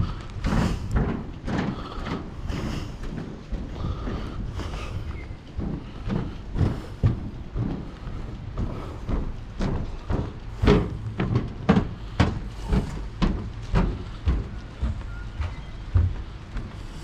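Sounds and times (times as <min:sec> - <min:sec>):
footsteps on wooden deck: 0:00.0 - 0:17.0.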